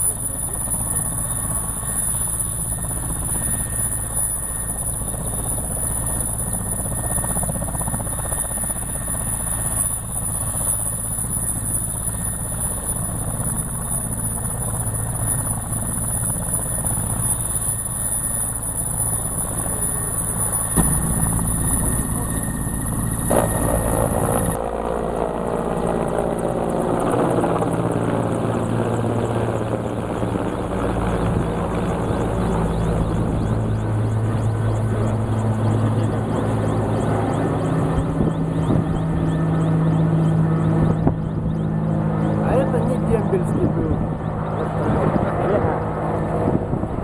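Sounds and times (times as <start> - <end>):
helicopter engine and rotor drone: 0.0 - 47.0
high whine: 0.0 - 47.0.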